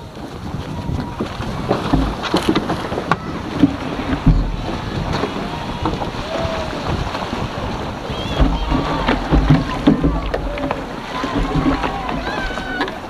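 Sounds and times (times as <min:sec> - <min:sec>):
water lapping against hull: 0:00.0 - 0:13.0
wind buffeting microphone: 0:00.0 - 0:13.0
short knocks: 0:01.0 - 0:13.0.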